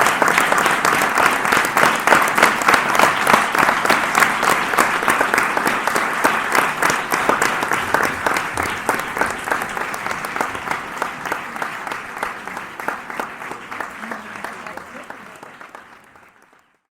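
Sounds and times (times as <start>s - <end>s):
audience applause: 0.0s - 16.9s.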